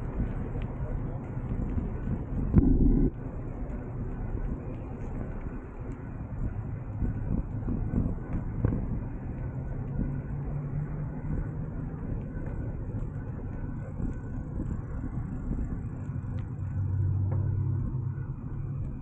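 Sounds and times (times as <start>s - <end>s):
bicycle tyre rumbling on pavement: 0.0s - 19.0s
car traffic hum: 0.0s - 19.0s
wind buffeting microphone: 0.0s - 19.0s.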